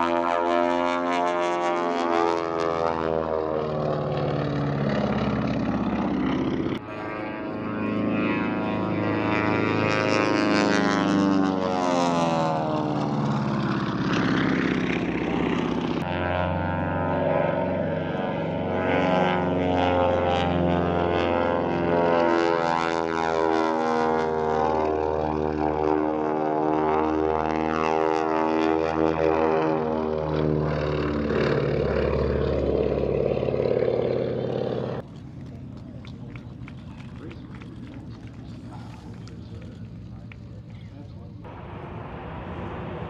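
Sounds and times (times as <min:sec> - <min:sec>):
stunt plane propeller engine: 0:00.0 - 0:43.0.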